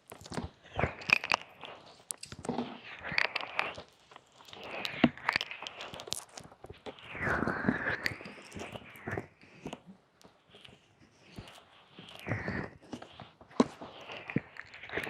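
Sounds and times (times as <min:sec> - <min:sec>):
fingers rubbing a microphone: 0:00.1 - 0:15.0.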